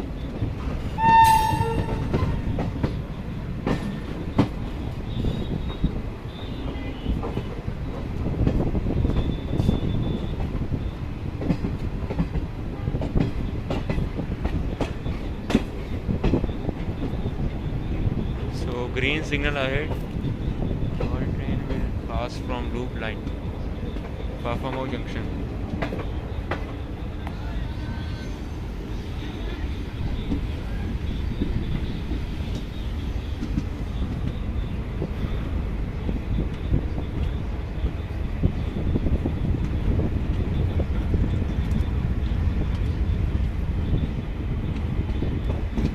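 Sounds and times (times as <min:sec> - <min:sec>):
train rumble: 0:00.0 - 0:45.9.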